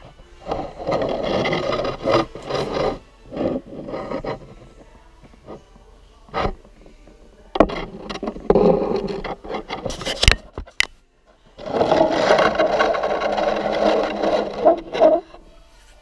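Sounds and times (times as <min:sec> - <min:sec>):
camera scraping and knocking on tile: 0:00.0 - 0:05.7, 0:06.3 - 0:06.8, 0:07.6 - 0:10.9, 0:11.6 - 0:16.0.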